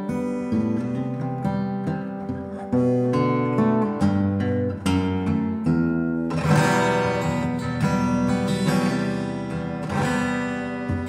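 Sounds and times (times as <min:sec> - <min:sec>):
acoustic guitar strummed and picked: 0:00.0 - 0:11.0.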